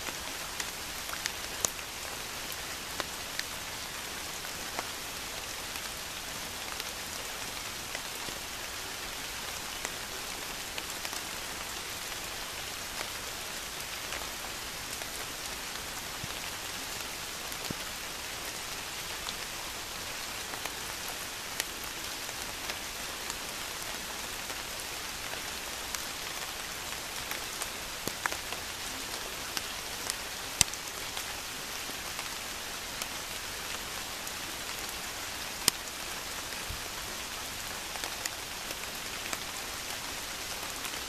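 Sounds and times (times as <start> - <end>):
rain falling on lake: 0.0 - 41.0.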